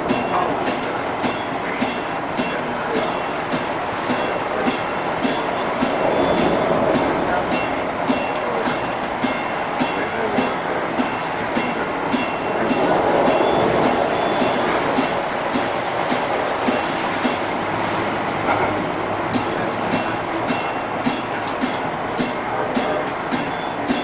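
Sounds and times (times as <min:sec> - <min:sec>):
train rumble: 0:00.0 - 0:24.0
train wheels clicking over rail joints: 0:00.0 - 0:24.0.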